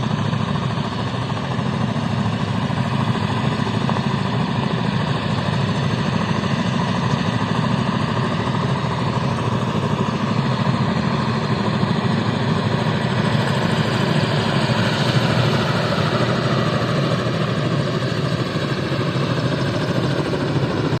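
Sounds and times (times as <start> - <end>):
helicopter blade chop: 0.0 - 21.0
helicopter rotor and turbine rumble: 0.0 - 21.0.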